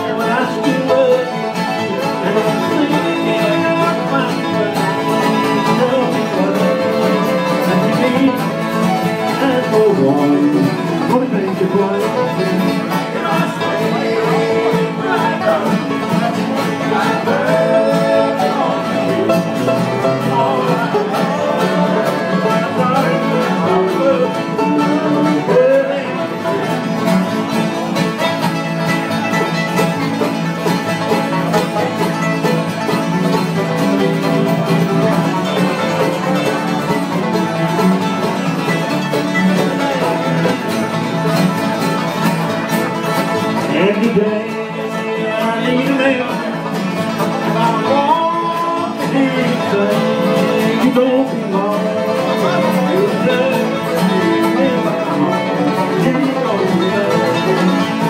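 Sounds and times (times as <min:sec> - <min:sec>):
banjo lead: 0:00.0 - 0:58.0
bluegrass band playing: 0:00.0 - 0:58.0.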